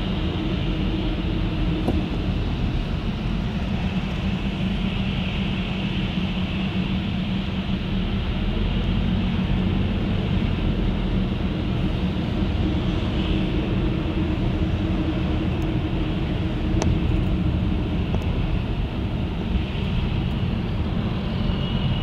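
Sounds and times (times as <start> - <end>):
low engine hum: 0.0 - 22.0
road and tyre noise: 0.0 - 22.0.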